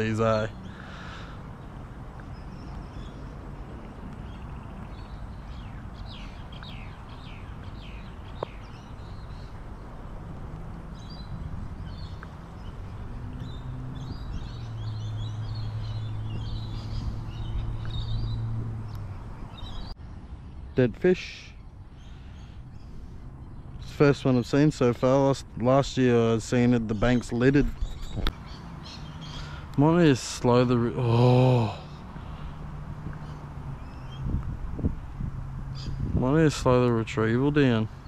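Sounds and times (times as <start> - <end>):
birds chirping and calling: 0.0 - 20.0, 20.6 - 38.0
steady outdoor hiss: 0.0 - 38.0.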